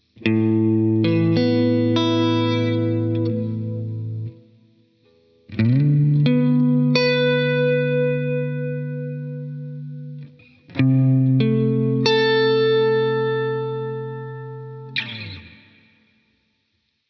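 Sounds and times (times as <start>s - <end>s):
electric guitar chords with reverb: 0.0s - 4.4s, 5.2s - 16.2s.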